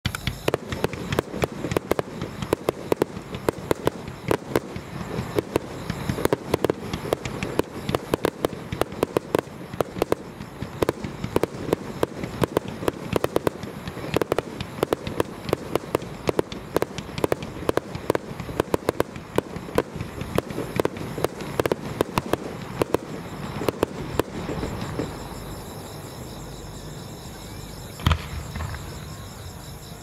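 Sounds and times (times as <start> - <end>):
fireworks shells bursting: 0.0 - 26.2, 27.9 - 29.9.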